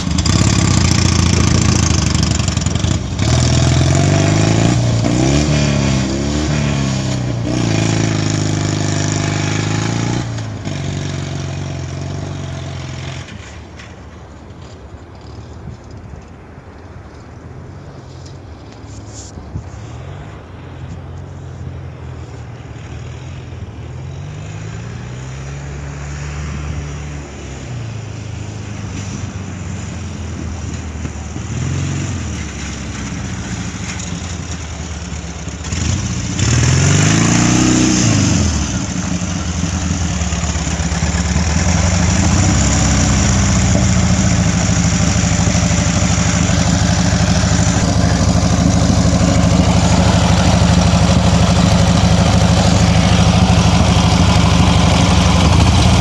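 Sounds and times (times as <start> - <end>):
motorcycle engine revving: 0.0 - 13.9, 22.5 - 56.0.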